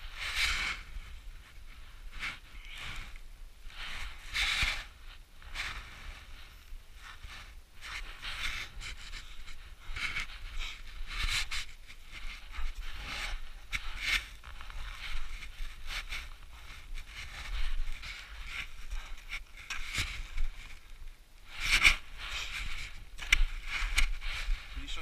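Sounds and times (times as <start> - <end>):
boots and ice axe crunching snow: 3.8 - 25.0.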